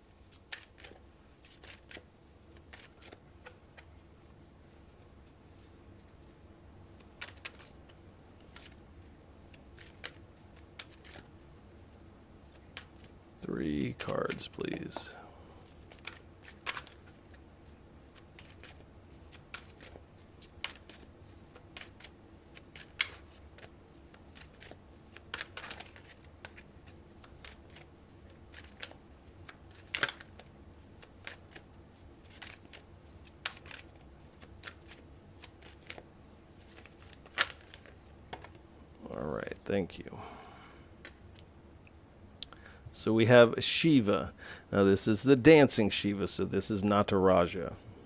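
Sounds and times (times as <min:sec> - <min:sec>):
cards being shuffled by hand: 0:00.0 - 0:40.2, 0:40.9 - 0:41.5.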